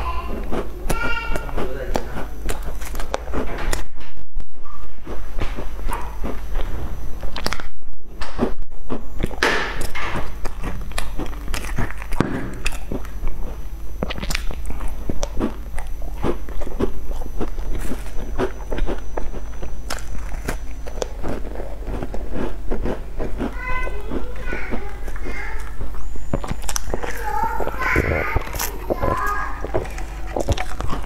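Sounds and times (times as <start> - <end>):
chewing crunchy bun: 0.0 - 31.0.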